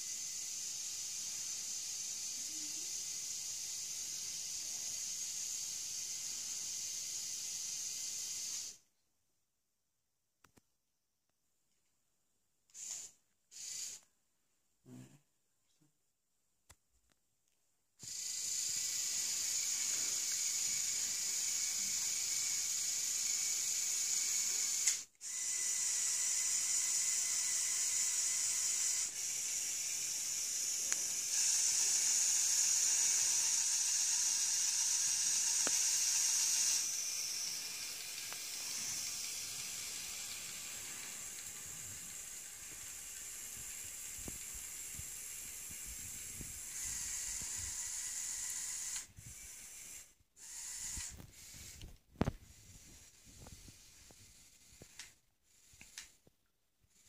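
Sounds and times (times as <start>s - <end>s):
toy crane motor whirring: 0.0s - 8.8s, 12.7s - 14.1s, 18.0s - 56.2s.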